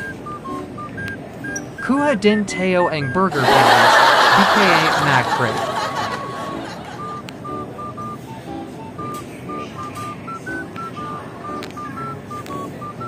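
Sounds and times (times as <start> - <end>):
beep-like melody: 0.0 - 3.8, 6.1 - 13.0
quiet musical accompaniment: 0.0 - 3.8, 4.4 - 13.0.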